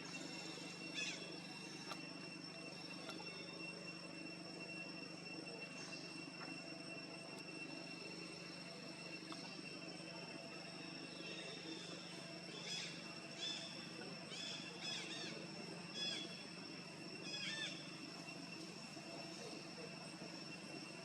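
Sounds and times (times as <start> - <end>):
high insect trilling: 0.0 - 21.0.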